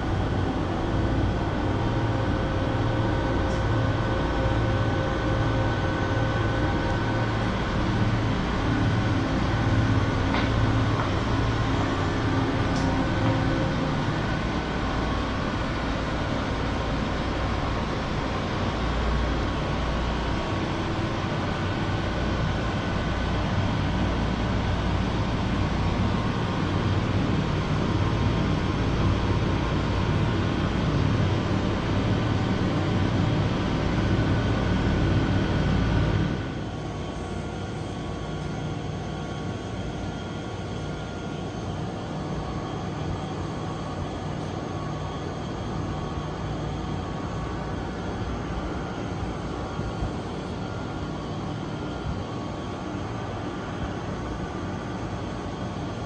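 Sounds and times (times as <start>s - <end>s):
vending machine cooling hum: 0.0s - 56.0s.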